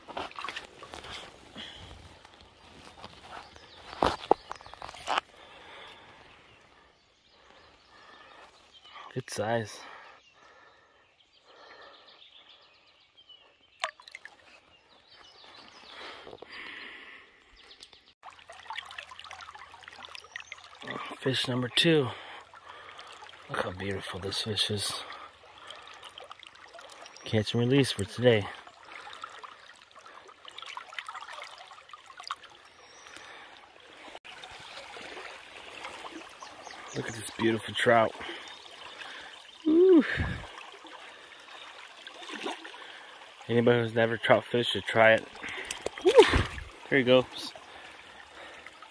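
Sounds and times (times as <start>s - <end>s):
creek water splashing and trickling: 0.0s - 48.9s.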